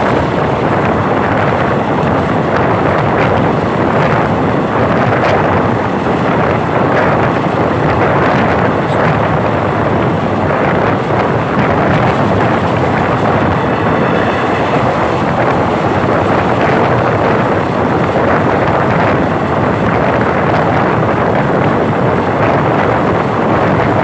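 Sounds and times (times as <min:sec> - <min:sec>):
train running: 0:00.0 - 0:24.0.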